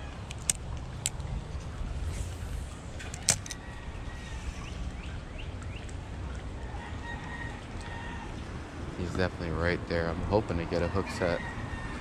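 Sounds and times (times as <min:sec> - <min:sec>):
low steady rumble: 0:00.0 - 0:10.9.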